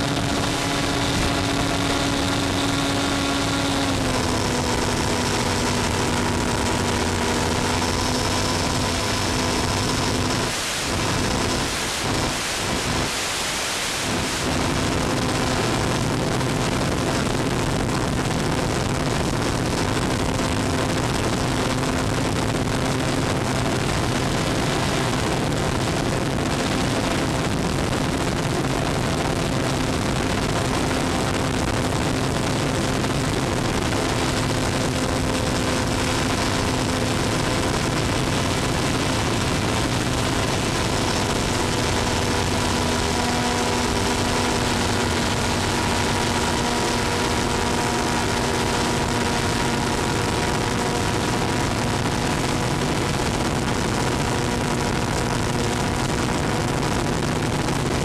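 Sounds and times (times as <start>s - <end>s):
model plane electric motor: 0.0s - 13.2s, 14.1s - 58.0s
static hiss: 0.0s - 58.0s.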